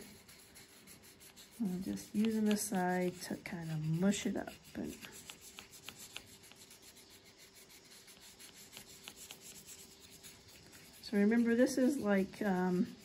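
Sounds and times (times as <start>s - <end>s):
oil pastel rubbing on paper: 0.0s - 13.0s.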